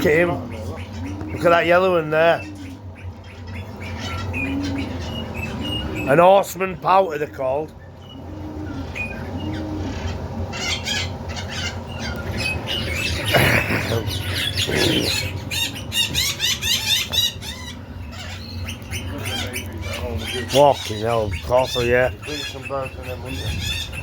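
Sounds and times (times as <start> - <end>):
bird squawk: 0.0 - 6.5, 7.9 - 24.0
birds chirping: 0.0 - 24.0.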